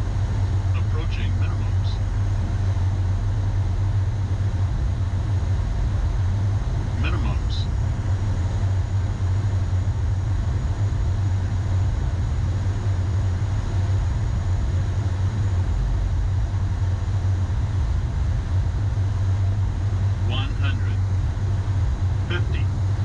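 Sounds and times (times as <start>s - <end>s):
cockpit airflow and engine rumble: 0.0s - 23.0s.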